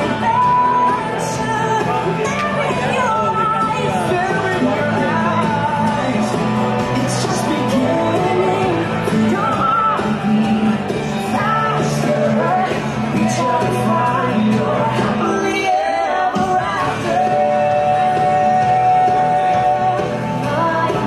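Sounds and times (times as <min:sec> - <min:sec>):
person singing: 0:00.0 - 0:21.0
steady bass line: 0:00.0 - 0:21.0.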